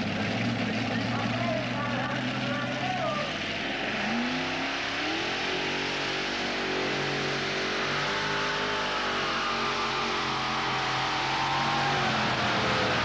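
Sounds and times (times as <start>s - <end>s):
tractor engines revving: 0.0s - 13.0s.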